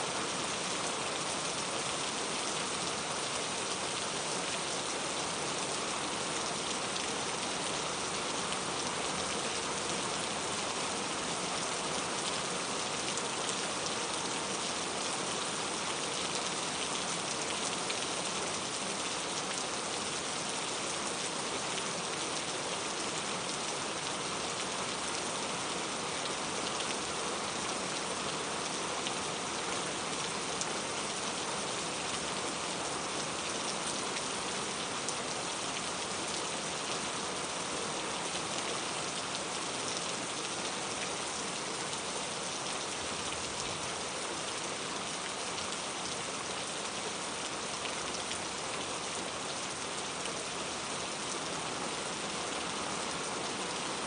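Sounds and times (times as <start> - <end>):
steady rain pattering: 0.0 - 54.0.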